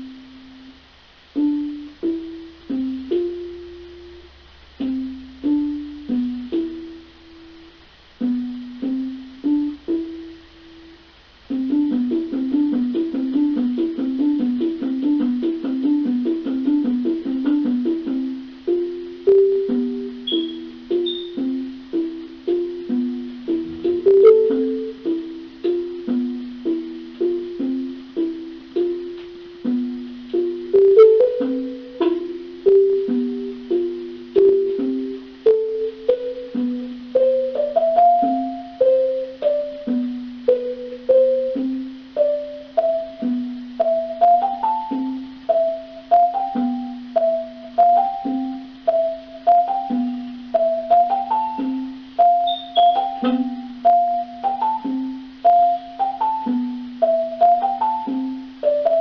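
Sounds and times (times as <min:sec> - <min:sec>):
slow instrumental music: 0:00.0 - 0:59.0.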